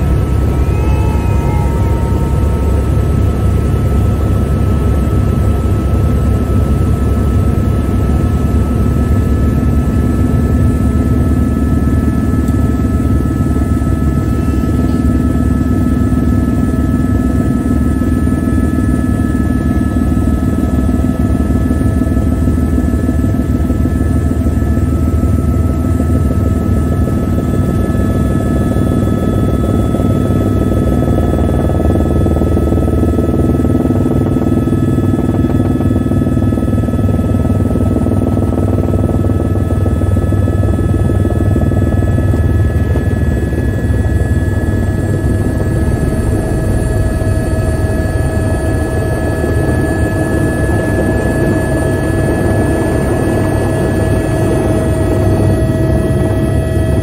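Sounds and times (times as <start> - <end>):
helicopter rotor thrumming: 0.0 - 57.0
turbine whine: 0.0 - 57.0.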